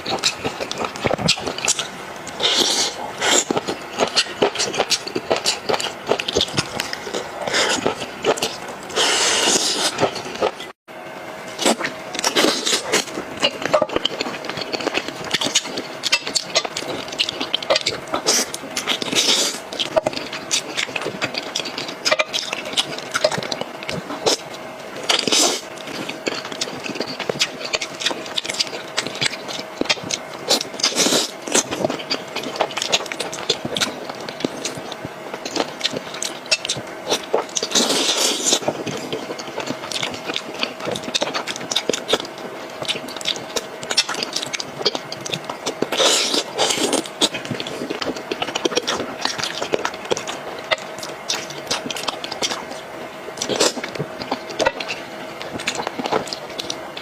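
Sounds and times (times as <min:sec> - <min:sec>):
slurps or crunches: 0:00.0 - 0:10.7, 0:11.5 - 0:57.0
wet chewing and smacking: 0:00.0 - 0:10.8, 0:11.5 - 0:57.0
faint steady hum: 0:00.0 - 0:57.0.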